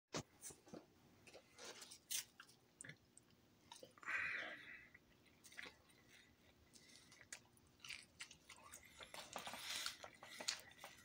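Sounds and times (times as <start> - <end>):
person chewing food: 1.3 - 11.0.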